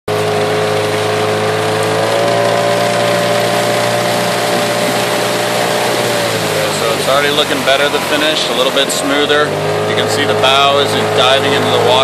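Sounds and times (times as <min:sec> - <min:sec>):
outboard motor running: 0:00.1 - 0:12.0.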